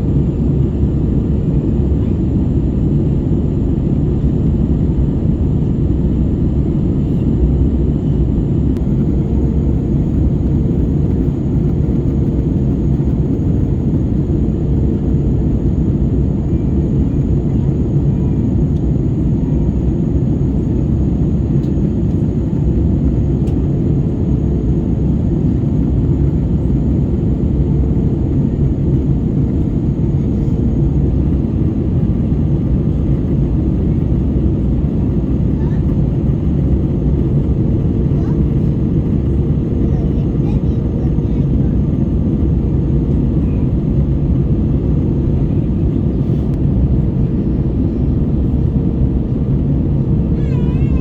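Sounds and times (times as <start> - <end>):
aircraft cabin rumble: 0.0 - 51.0
faint hum: 0.0 - 51.0.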